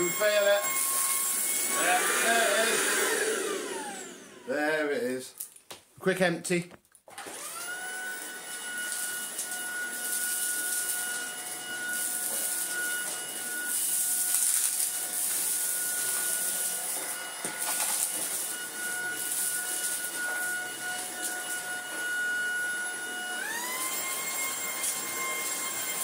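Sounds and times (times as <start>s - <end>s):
vacuum cleaner motor whine: 0.0s - 5.1s, 7.1s - 26.0s.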